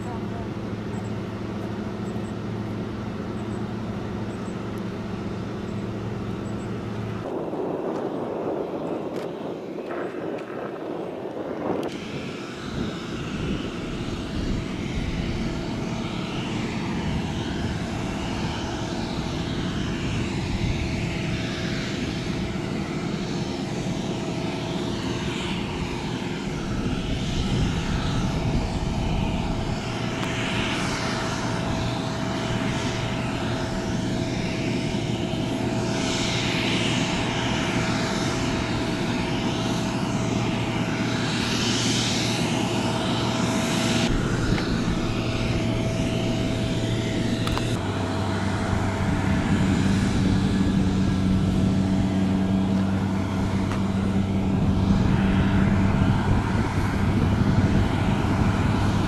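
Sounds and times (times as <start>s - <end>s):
aircraft engine drone with whine: 0.0s - 59.0s.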